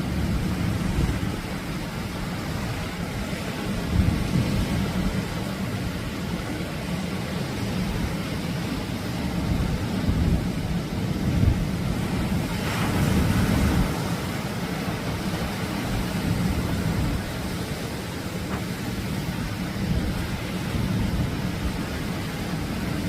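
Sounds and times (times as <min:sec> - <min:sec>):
surf washing onto beach: 0:00.0 - 0:23.0
wave breaking: 0:00.0 - 0:23.0
wind rumbling on microphone: 0:00.0 - 0:23.0.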